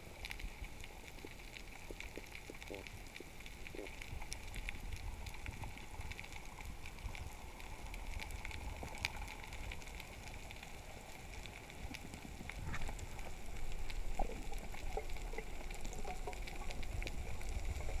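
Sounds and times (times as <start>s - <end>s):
crackling clicks underwater: 0.0s - 18.0s
underwater low rumble: 0.0s - 18.0s.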